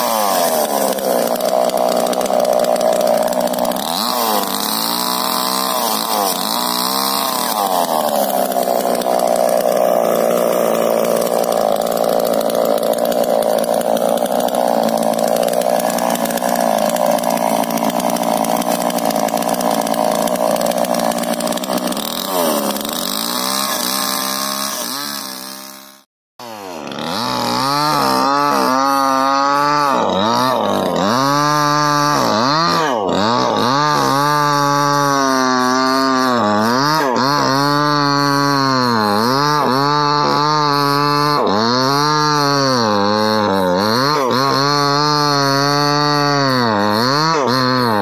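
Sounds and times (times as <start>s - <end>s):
chainsaw cutting log: 0.0s - 48.0s.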